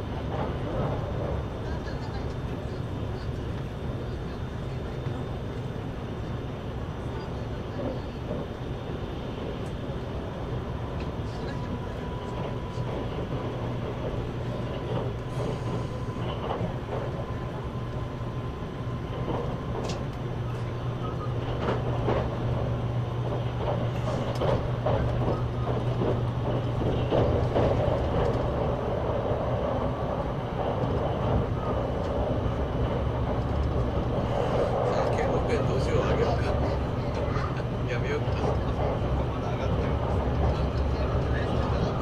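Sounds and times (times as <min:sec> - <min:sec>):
train low hum: 0:00.0 - 0:42.0
wheels rumbling on rail: 0:00.0 - 0:42.0.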